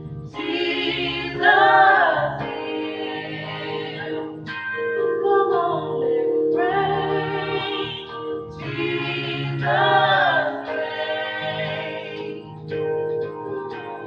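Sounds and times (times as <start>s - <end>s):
held keyboard chords: 0.0s - 14.0s
gospel choir singing: 0.3s - 14.0s.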